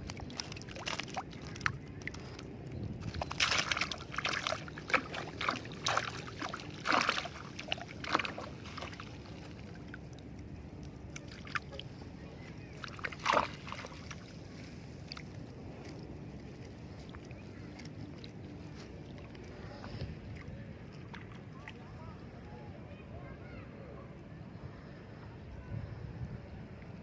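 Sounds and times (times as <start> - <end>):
water splashing and sloshing: 0.0 - 22.3.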